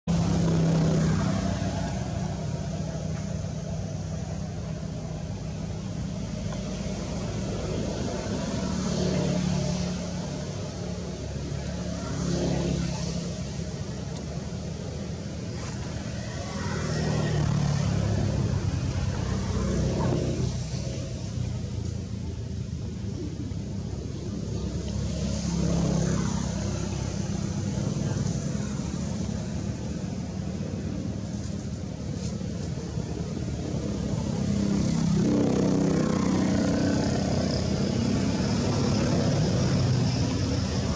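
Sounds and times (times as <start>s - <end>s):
vehicle engine humming: 0.0s - 40.9s.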